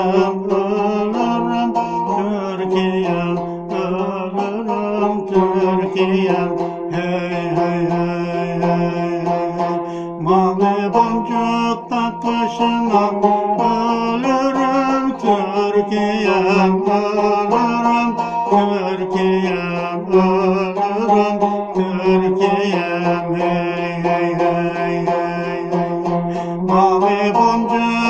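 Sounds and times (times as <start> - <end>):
plucked lute folk melody: 0.0 - 28.0.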